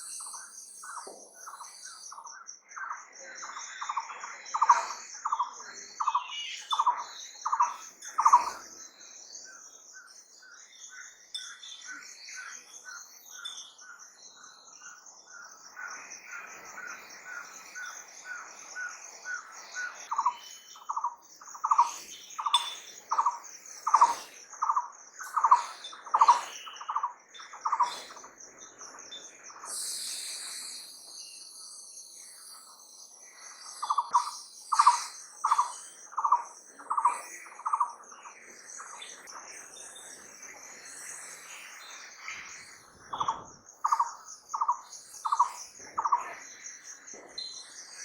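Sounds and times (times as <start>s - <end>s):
high insect trill: 0.0s - 48.0s.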